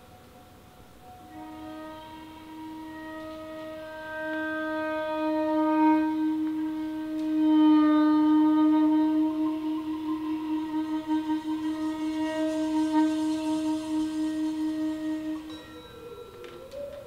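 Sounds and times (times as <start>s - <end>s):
long sustained musical note: 0.0s - 17.0s.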